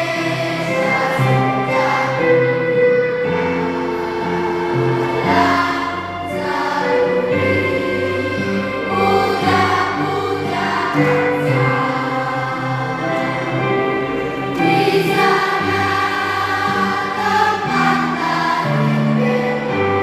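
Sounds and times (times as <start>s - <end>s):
children's choir singing: 0.0s - 20.0s
low instrumental accompaniment: 0.0s - 20.0s.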